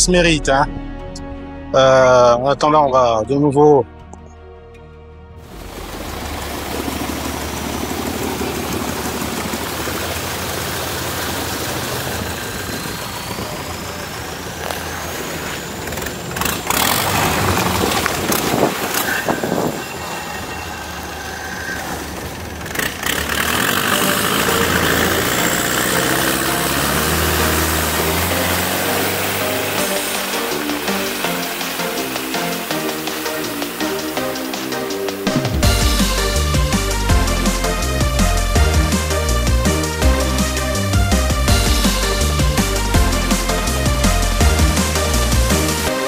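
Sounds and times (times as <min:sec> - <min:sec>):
motorcycle engine running: 0:05.4 - 0:19.8, 0:22.0 - 0:46.0
steady rushing noise: 0:05.4 - 0:46.0.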